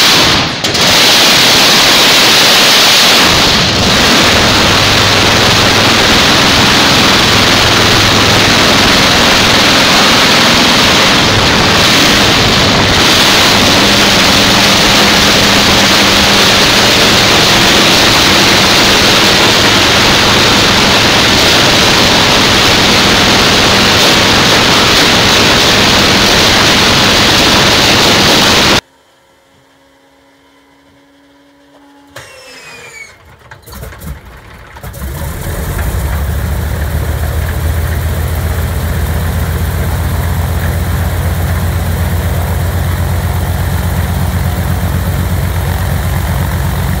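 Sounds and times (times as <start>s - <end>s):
engine starter whine: 0.0s - 47.0s
radial aircraft engine running: 0.0s - 47.0s.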